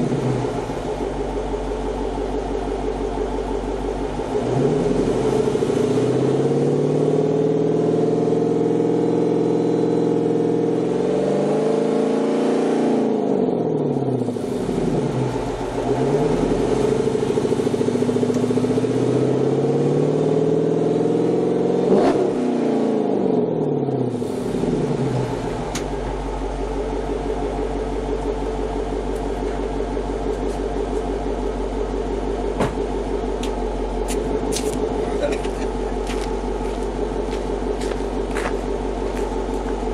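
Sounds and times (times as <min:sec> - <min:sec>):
car engine idling: 0:00.0 - 0:11.3, 0:12.9 - 0:39.9
car engine revving: 0:00.0 - 0:39.9.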